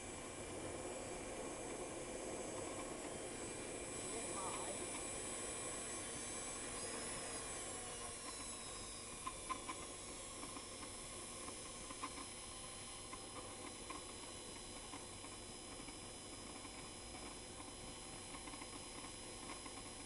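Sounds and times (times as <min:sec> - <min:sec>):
shop vac blower whining: 0:00.0 - 0:18.3.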